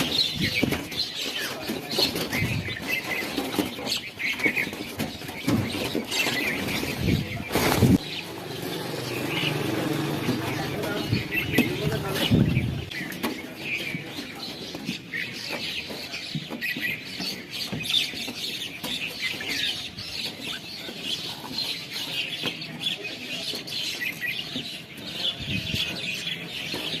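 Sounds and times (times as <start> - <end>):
flock of small birds chattering: 0.0 - 27.0.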